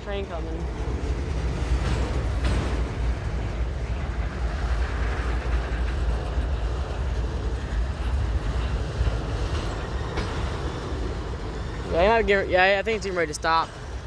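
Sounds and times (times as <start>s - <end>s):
freight train cars rolling: 0.0s - 14.0s.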